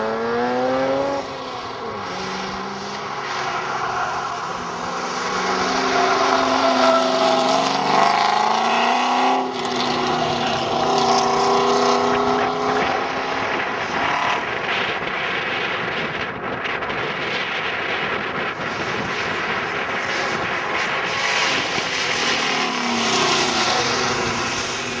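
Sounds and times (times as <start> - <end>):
car engine running hard: 0.0 - 25.0.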